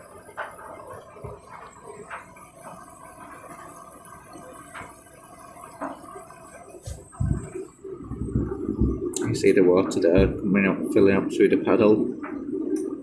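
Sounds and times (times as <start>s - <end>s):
washing machine filling with water: 0.0s - 13.0s
water splashes and drips: 0.0s - 13.0s.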